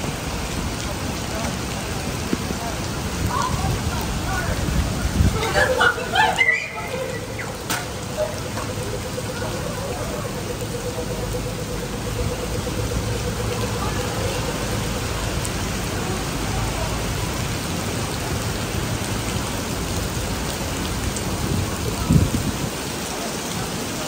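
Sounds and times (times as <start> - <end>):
heavy rain on pavement: 0.0 - 24.0.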